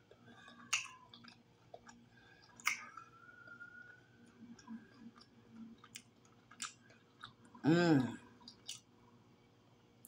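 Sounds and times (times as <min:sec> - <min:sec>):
mouth chewing with wet smacks: 0:00.0 - 0:07.6, 0:08.3 - 0:08.9.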